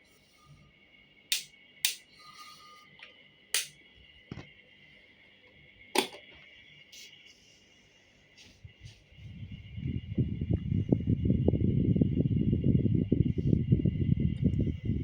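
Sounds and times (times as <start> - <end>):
fan whine: 0.0 - 15.0.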